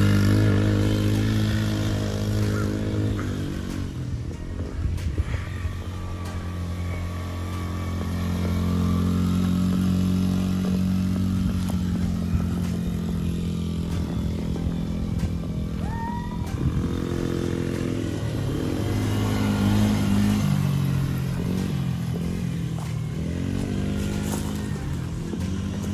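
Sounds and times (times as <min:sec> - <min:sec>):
motor engine running: 0:00.0 - 0:25.9.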